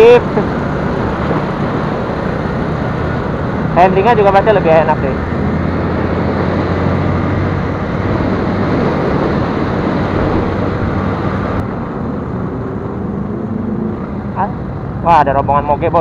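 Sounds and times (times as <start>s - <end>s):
motorcycle engine drone: 0.0s - 16.0s
wind rushing on microphone: 0.0s - 16.0s.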